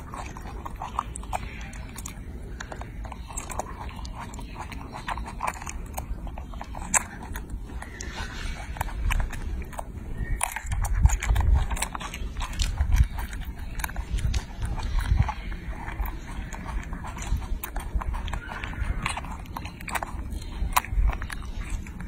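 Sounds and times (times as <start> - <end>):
monkey chewing with wet smacking: 0.0 - 22.0.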